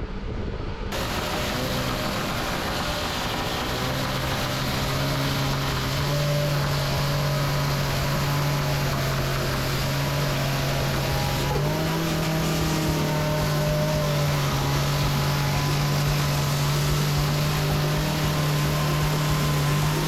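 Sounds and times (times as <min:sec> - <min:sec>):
wide rushing noise: 0:00.0 - 0:20.0
motor humming: 0:00.9 - 0:20.0.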